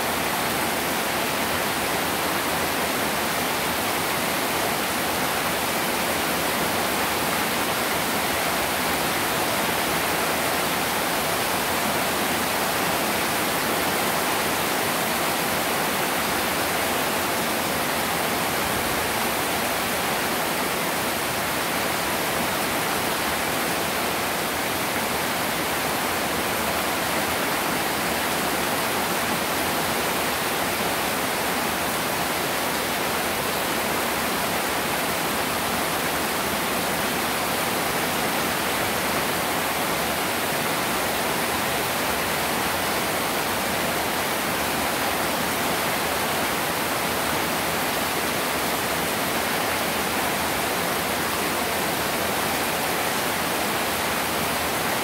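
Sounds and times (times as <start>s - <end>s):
heavy rain on floodwater: 0.0s - 55.0s.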